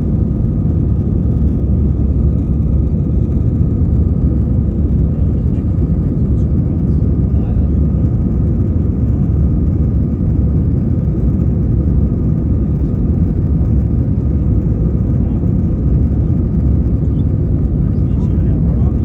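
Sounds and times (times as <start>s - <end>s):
aircraft cabin engine rumble: 0.0s - 19.0s
faint steady whine: 0.0s - 19.0s.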